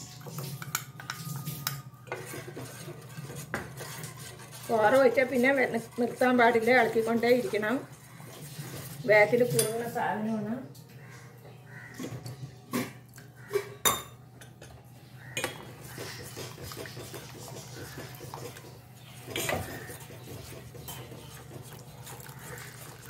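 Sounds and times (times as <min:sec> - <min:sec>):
spoon stirring in a metal pot: 0:00.0 - 0:10.0, 0:12.8 - 0:23.0.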